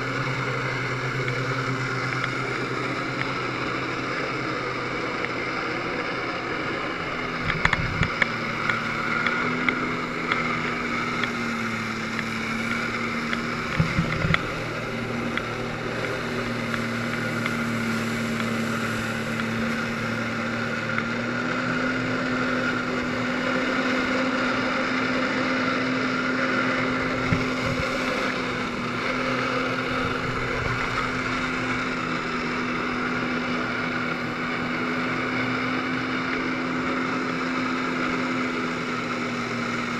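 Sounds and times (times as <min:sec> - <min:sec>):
rushing water: 0:00.0 - 0:39.9
watercraft engine running at high revs: 0:00.0 - 0:39.9.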